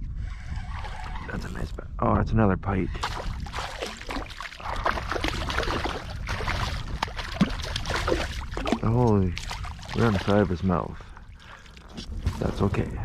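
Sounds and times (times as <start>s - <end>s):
steady low rumble: 0.0s - 13.0s
water splashing and sloshing: 0.2s - 1.8s, 2.9s - 13.0s.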